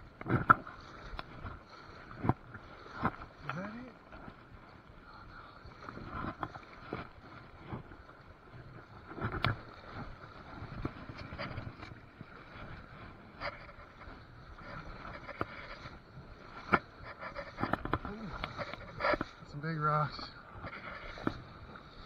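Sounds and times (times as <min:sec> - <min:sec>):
river water sloshing: 0:00.0 - 0:22.0.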